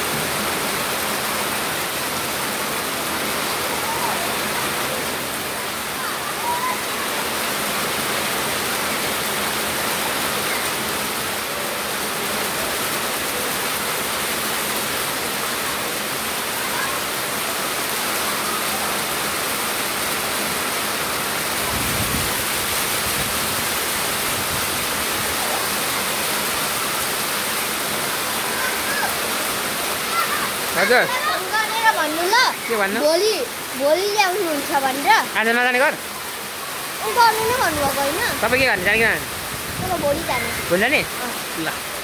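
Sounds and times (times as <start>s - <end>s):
rushing water hiss: 0.0s - 42.0s.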